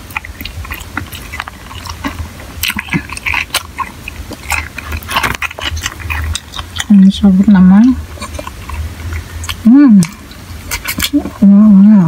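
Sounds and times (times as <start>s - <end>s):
crunching crispy food: 0.0s - 11.4s
low steady hum: 0.0s - 12.0s.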